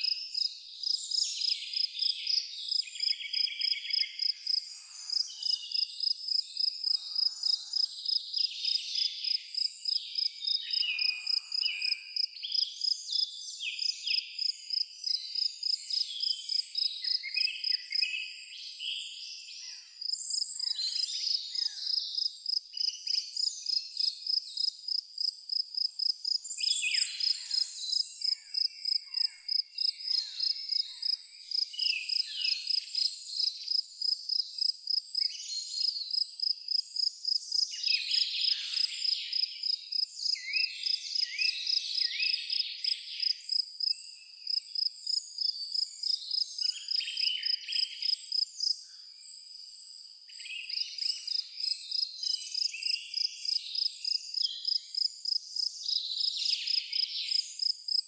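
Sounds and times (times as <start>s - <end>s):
insect chirping: 0.0s - 18.5s, 20.0s - 58.0s
songbirds calling and whistling: 0.0s - 25.0s, 25.8s - 58.0s.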